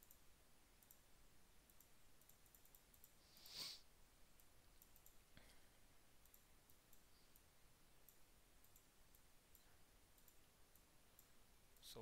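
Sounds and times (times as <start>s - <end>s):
computer mouse clicks: 0.0s - 3.6s, 4.3s - 5.6s, 6.2s - 11.9s.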